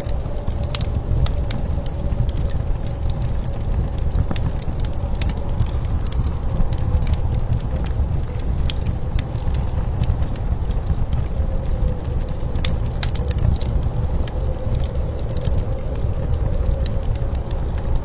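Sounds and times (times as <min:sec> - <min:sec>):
blizzard wind rumble: 0:00.0 - 0:18.0
wood fire crackling and popping: 0:00.0 - 0:18.0.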